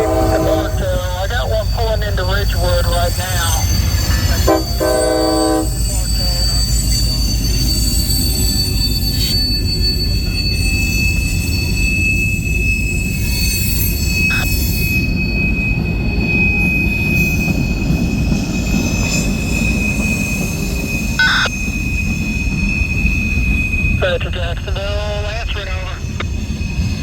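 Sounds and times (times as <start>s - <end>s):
freight train rumble: 0.0s - 27.0s
train wheels squealing: 0.0s - 27.0s.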